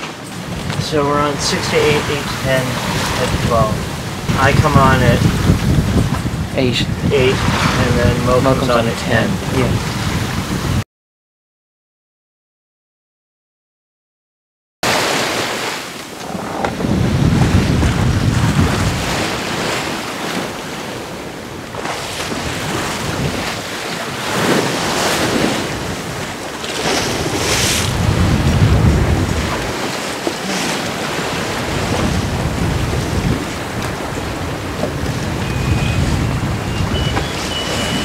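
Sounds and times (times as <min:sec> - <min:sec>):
water swooshes: 0:00.0 - 0:10.8, 0:14.8 - 0:38.0
waves rushing along hull: 0:00.0 - 0:10.8, 0:14.8 - 0:38.0
wind buffeting microphone: 0:00.0 - 0:10.8, 0:16.1 - 0:38.0.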